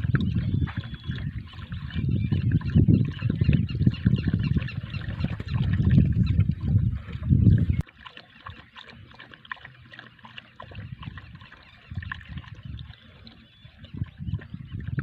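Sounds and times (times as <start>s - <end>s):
water trickling into bowl: 0.0s - 15.0s.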